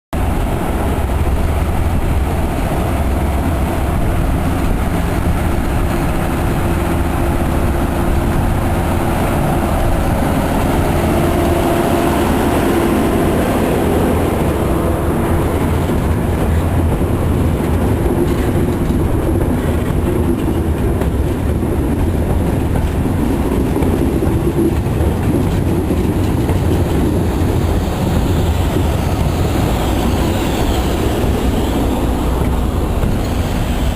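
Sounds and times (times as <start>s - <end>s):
diesel locomotive engine under load: 0.2s - 33.9s
train wheels clattering over rail joints: 0.4s - 33.9s.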